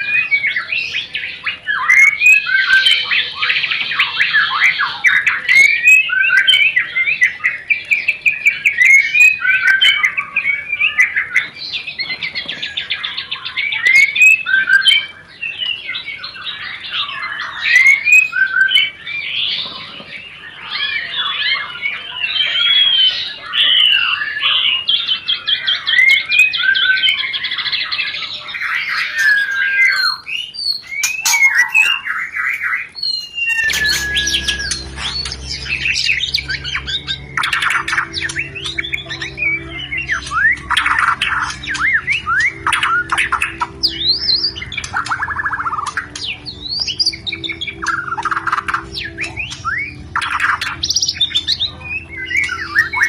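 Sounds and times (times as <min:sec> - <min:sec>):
bird singing rattling trills: 0:00.0 - 0:53.0.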